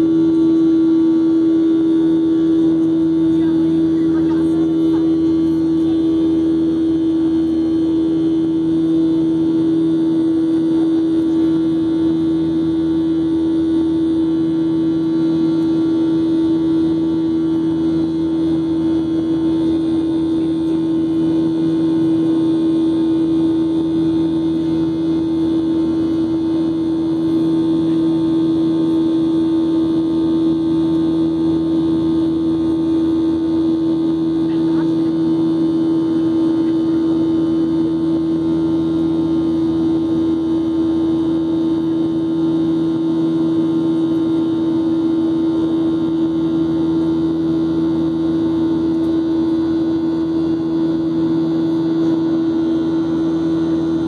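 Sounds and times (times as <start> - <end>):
airplane cabin jet engine drone: 0.0 - 54.0.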